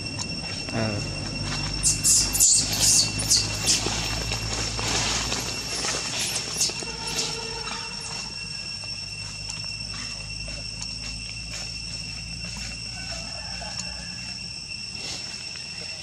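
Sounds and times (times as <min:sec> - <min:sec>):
insect chirring: 0:00.0 - 0:16.0
rustling dry leaves: 0:00.0 - 0:16.0.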